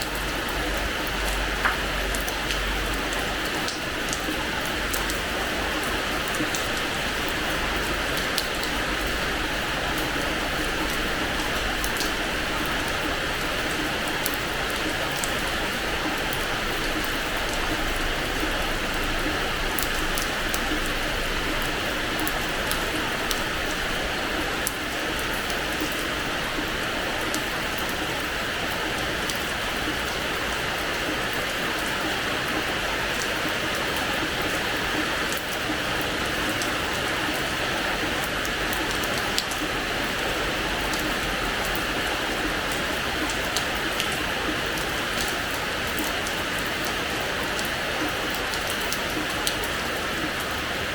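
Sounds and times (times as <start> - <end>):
rain on hard floor: 0.0 - 50.9.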